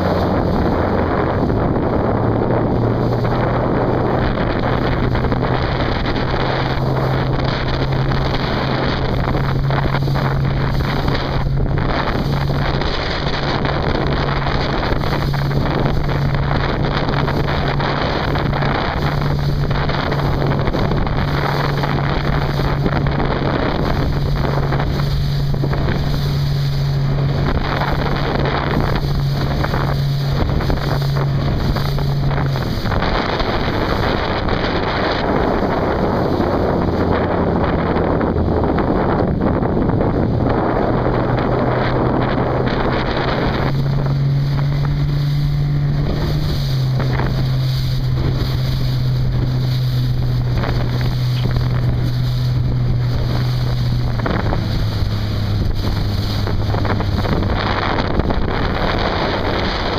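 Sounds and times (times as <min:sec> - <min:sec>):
steady low hum: 0:00.0 - 0:59.9
wind buffeting microphone: 0:00.0 - 0:59.9.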